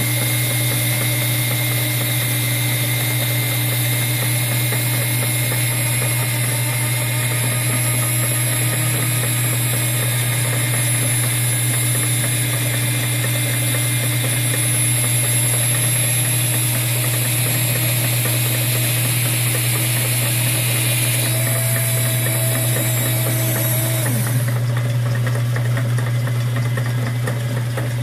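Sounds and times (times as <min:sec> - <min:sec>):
rotary tool whining: 0:00.0 - 0:24.6
lathe running: 0:00.0 - 0:25.0.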